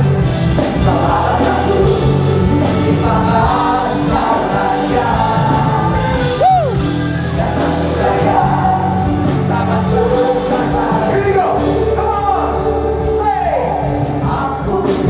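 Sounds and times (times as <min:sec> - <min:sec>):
congregation singing along: 0:00.0 - 0:15.0
live gospel band and singers: 0:00.0 - 0:15.0.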